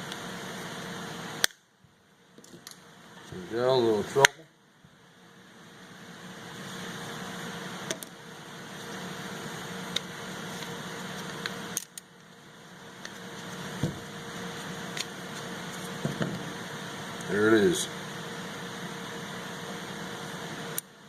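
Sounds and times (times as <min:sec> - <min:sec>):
machinery hum and hiss: 0:00.0 - 0:21.0.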